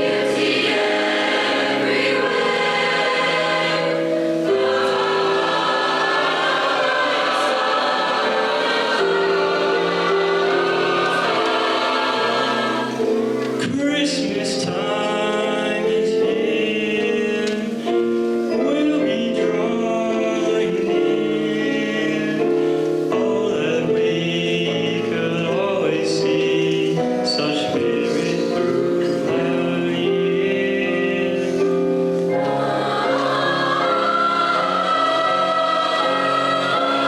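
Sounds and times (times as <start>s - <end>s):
choir singing held chords: 0.0s - 37.0s.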